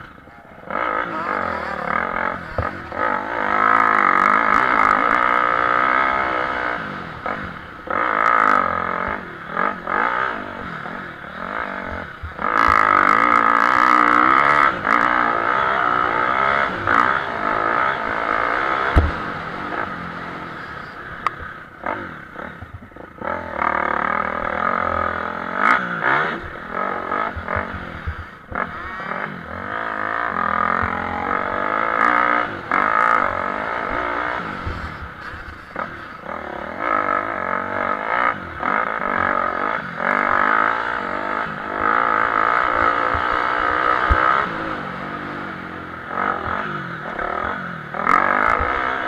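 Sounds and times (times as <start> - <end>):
motocross motorcycles revving: 0.0 - 49.0.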